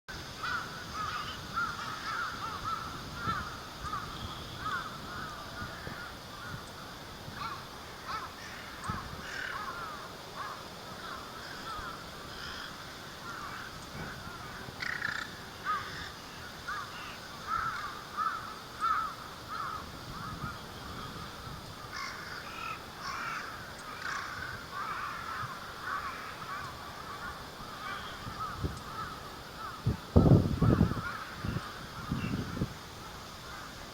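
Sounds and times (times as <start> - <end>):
wind rumbling on microphone: 0.1 - 33.9
rooks cawing: 0.4 - 33.9.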